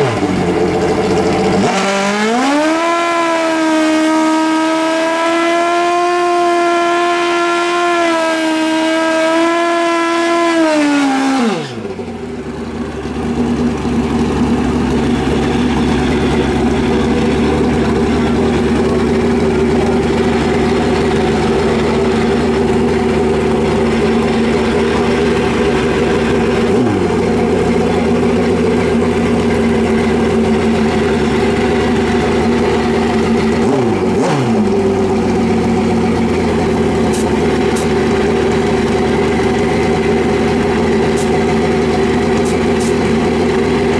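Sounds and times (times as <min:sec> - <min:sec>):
motorcycle engine revving and idling: 0:00.0 - 0:43.9.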